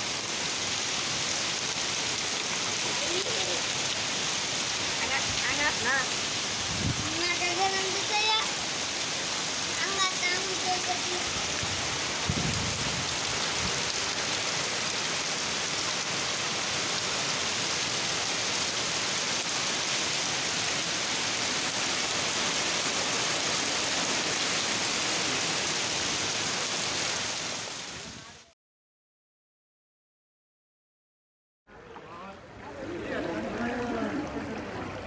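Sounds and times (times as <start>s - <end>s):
heavy rain pouring in wind: 0.0s - 28.5s, 32.0s - 35.0s.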